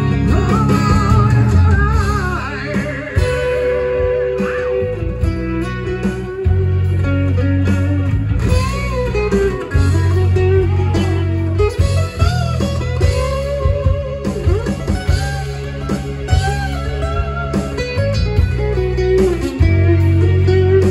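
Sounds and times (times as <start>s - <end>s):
acoustic-electric guitar: 0.0s - 20.9s
low bass: 0.0s - 20.9s.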